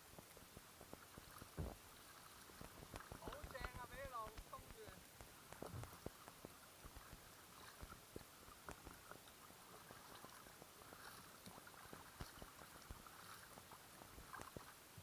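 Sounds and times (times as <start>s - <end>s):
paddle swishing in water: 0.0s - 15.0s
water dripping and lapping: 0.0s - 15.0s.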